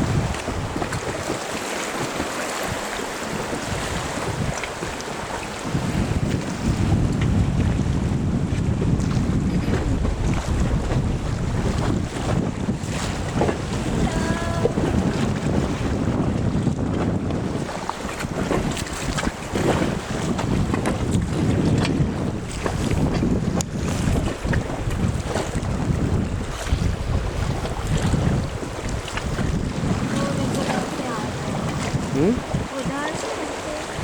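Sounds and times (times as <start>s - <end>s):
rushing river water: 0.0s - 8.0s, 8.9s - 34.0s
wind buffeting microphone: 0.0s - 34.0s.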